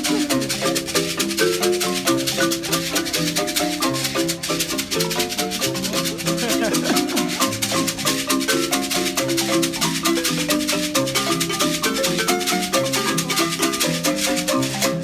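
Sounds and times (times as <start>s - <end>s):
fast shaker rattle: 0.0s - 15.0s
marimba-like melody: 0.0s - 15.0s.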